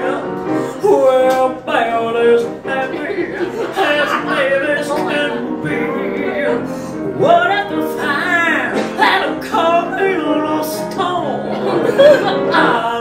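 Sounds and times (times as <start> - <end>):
piano accompaniment: 0.0 - 13.0.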